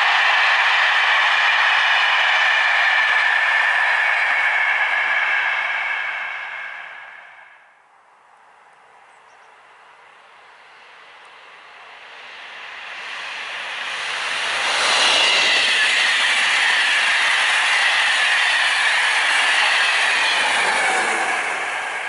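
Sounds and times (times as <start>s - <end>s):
passenger train passing at speed: 0.0s - 22.0s
wheels rushing on rail: 0.0s - 22.0s.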